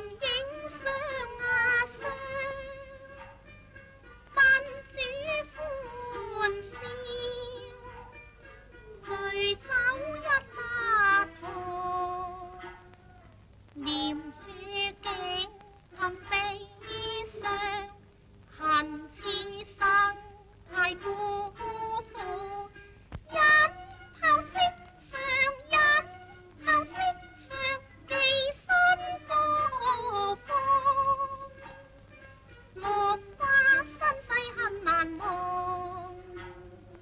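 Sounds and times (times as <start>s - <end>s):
woman singing with vibrato: 0.0s - 3.4s, 4.3s - 8.1s, 8.9s - 12.9s, 13.8s - 32.1s, 32.8s - 37.0s.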